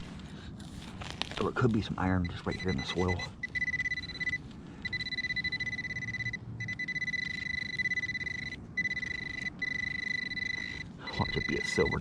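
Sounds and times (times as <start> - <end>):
pinpointer pulsing tone: 2.2 - 12.0.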